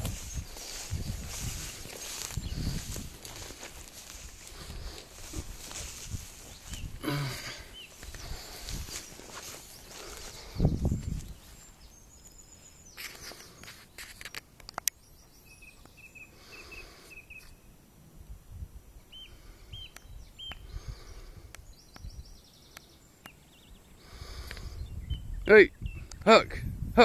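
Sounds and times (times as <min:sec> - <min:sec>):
small birds chirping: 0:00.0 - 0:17.9, 0:18.9 - 0:26.9
long grass rustling: 0:00.0 - 0:24.8.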